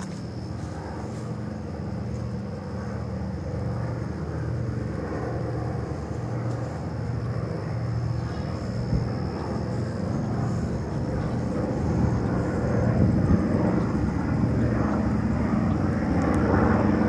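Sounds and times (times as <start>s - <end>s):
propeller planes droning overhead: 0.0s - 17.0s.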